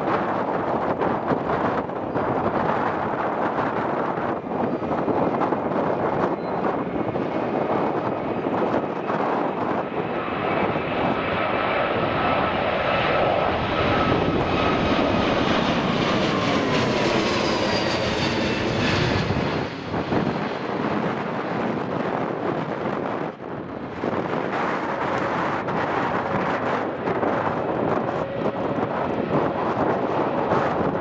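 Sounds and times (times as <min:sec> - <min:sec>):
jet engine roar with falling whine: 0:00.0 - 0:31.0.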